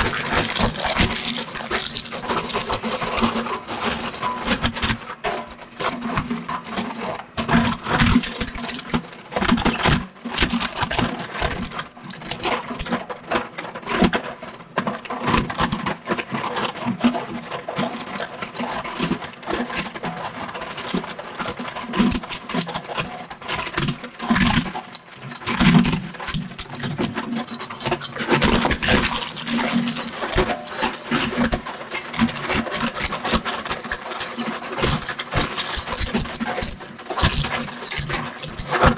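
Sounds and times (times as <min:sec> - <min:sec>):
shredder crunching plastic: 0:00.0 - 0:18.5, 0:21.6 - 0:38.9.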